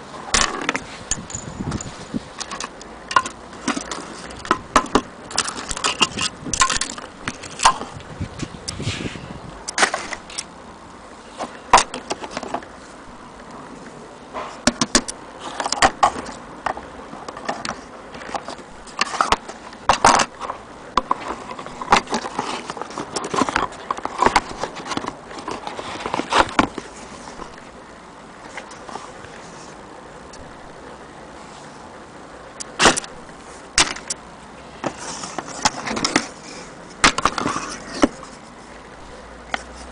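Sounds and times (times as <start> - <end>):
steady low hiss: 0.0 - 39.9.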